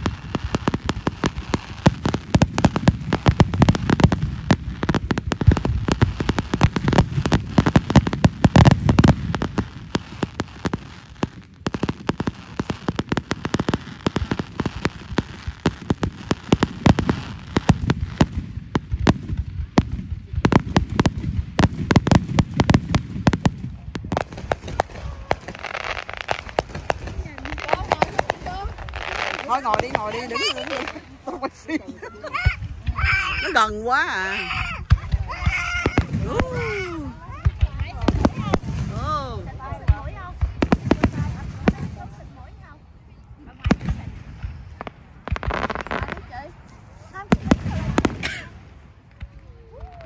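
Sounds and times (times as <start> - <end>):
fireworks crackling pops: 0.0 - 50.0
low booms of fireworks shells: 0.0 - 50.0.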